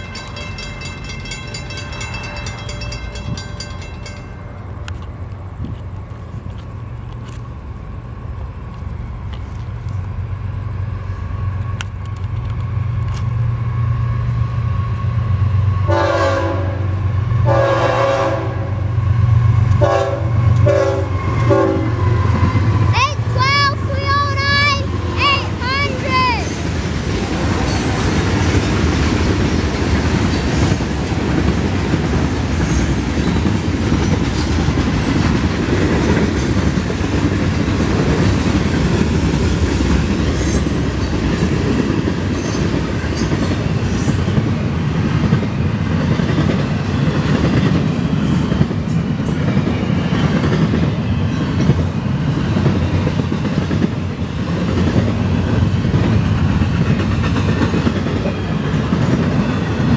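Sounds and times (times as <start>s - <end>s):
freight train wheels clattering: 0.0s - 7.4s, 19.1s - 59.9s.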